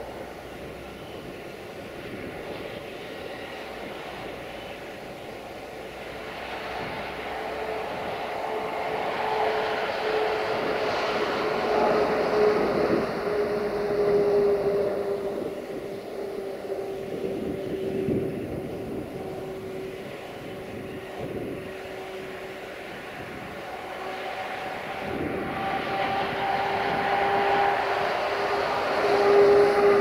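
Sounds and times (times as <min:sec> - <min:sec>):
freight train rolling rumble: 0:00.0 - 0:30.0.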